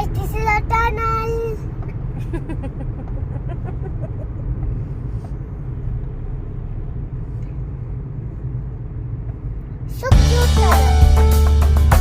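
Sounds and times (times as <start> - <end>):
car driving through tunnel: 0.0 - 12.0.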